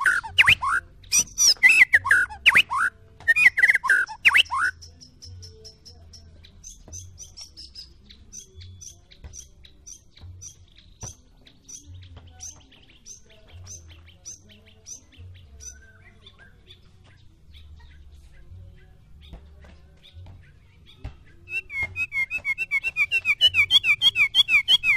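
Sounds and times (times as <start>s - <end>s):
bird singing: 0.0s - 24.9s.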